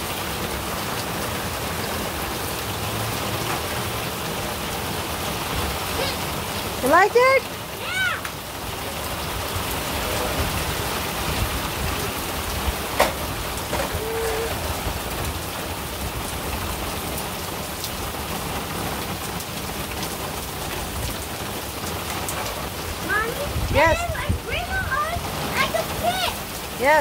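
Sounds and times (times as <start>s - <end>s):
heavy rain on pavement: 0.0s - 27.0s.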